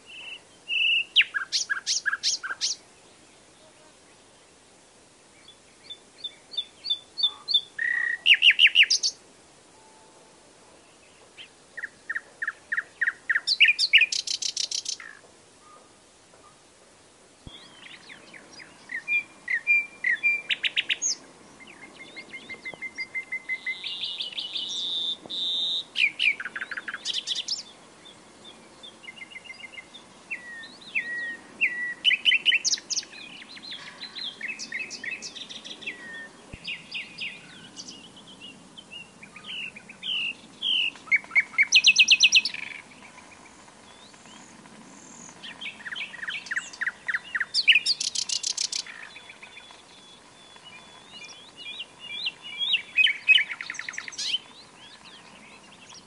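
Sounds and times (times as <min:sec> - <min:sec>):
nightingale singing: 0:00.0 - 0:04.5, 0:05.3 - 0:09.2, 0:10.8 - 0:16.6, 0:17.4 - 0:56.0.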